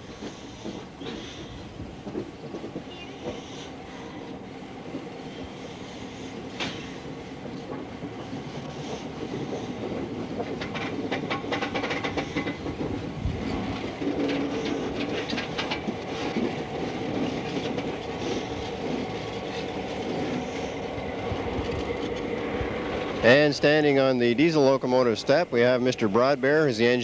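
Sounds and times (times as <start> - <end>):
wheels clicking over rail joints: 0.0 - 27.0.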